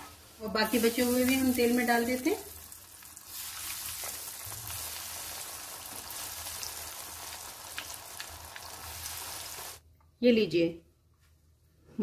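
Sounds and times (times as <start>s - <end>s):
oil sizzling and bubbling: 0.0s - 9.9s.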